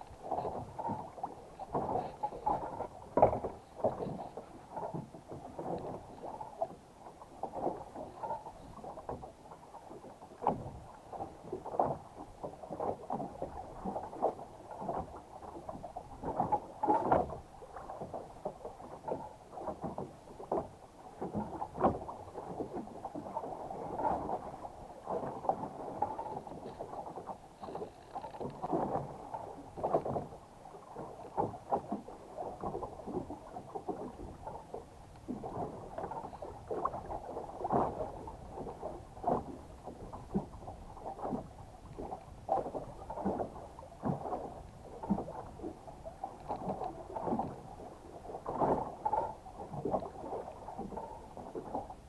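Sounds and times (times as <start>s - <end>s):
water splashing against boat: 0.0s - 52.0s.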